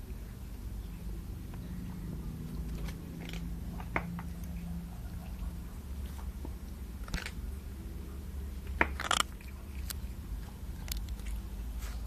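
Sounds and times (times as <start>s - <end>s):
low steady hum: 0.0s - 12.0s
cat crunching food: 1.3s - 12.0s.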